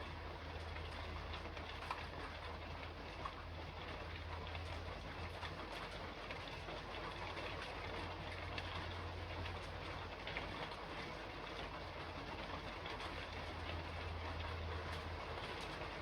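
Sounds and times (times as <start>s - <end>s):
rain on a roof: 0.0s - 16.0s.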